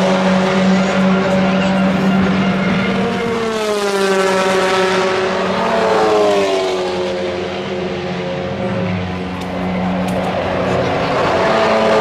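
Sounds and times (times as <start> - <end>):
racing car engine slowing down: 0.0 - 12.0.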